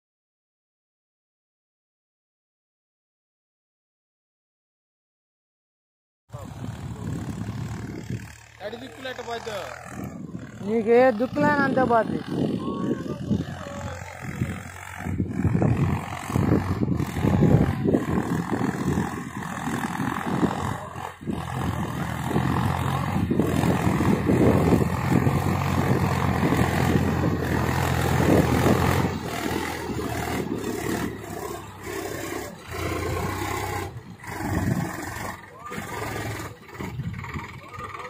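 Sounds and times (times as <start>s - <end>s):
tractor diesel engine running: 6.3s - 38.0s.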